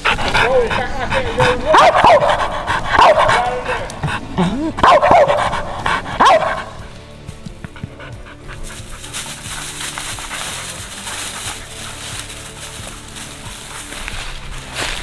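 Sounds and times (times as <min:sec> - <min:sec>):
dog panting: 0:00.0 - 0:14.7
background music: 0:00.0 - 0:15.0.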